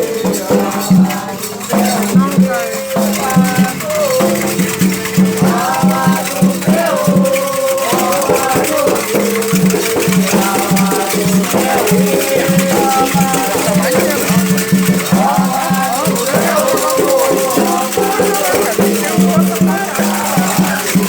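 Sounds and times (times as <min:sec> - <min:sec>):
hand drum beat: 0:00.0 - 0:21.0
rattle shaking: 0:00.0 - 0:21.0
voices singing call and response: 0:00.0 - 0:21.0.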